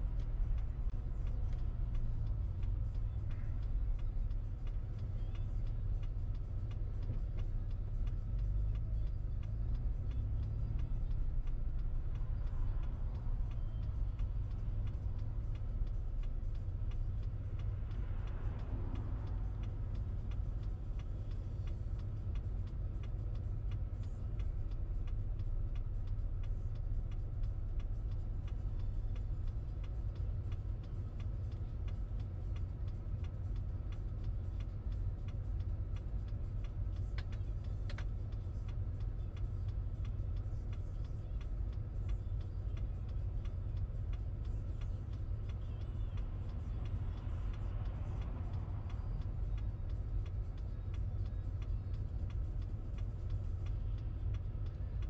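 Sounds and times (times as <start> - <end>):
car engine and road drone: 0.0 - 55.0
faint regular ticking: 0.0 - 55.0.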